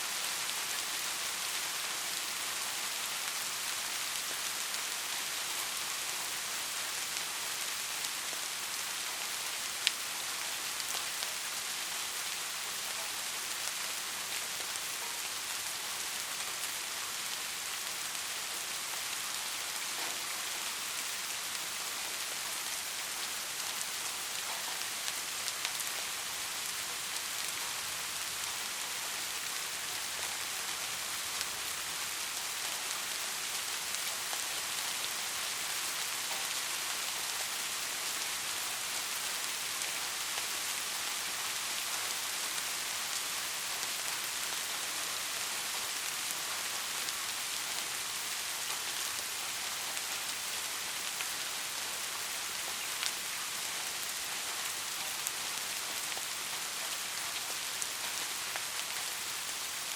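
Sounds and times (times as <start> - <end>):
soft rain pattering: 0.0 - 59.9.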